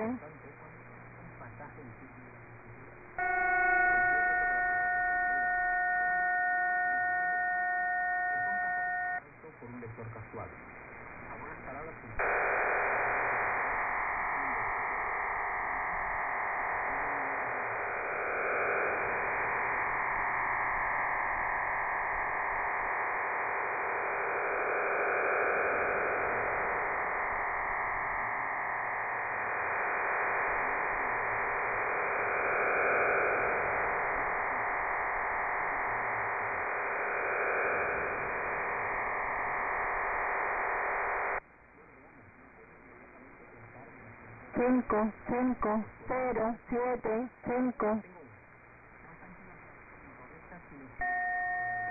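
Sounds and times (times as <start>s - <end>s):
hiss-like modem signal: 0.0s - 51.9s.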